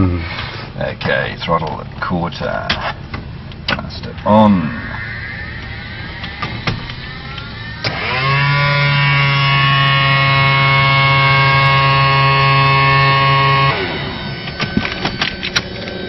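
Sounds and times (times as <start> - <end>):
steady electric hum: 0.0 - 16.0.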